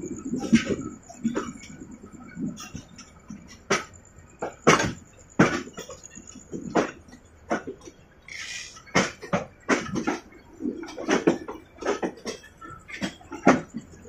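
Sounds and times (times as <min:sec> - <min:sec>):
train carriage in motion: 0:00.0 - 0:14.0
wheels clunking and rattling on track: 0:00.0 - 0:14.0.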